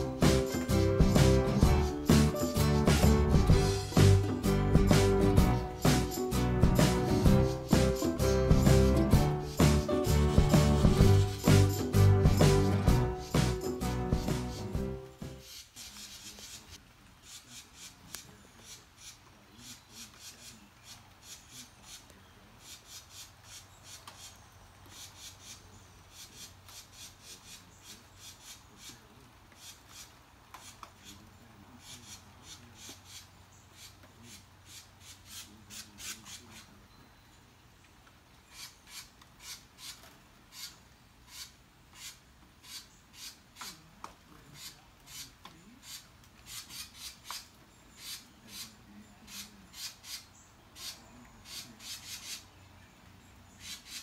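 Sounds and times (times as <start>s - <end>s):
wrens scolding: 0.0s - 24.3s, 29.6s - 36.7s, 38.5s - 52.5s.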